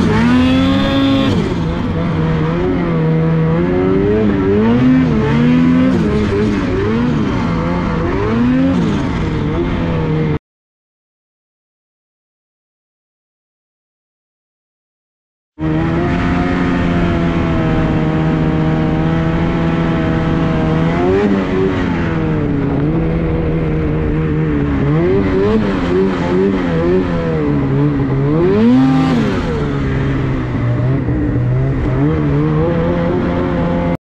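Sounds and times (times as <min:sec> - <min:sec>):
snowmobile engine revving: 0:00.0 - 0:10.4, 0:15.6 - 0:34.0.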